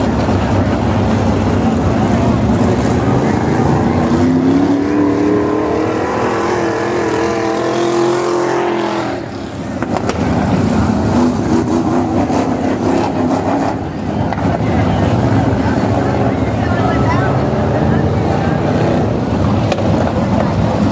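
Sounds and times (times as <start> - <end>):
race car engines passing: 0.0 - 20.9.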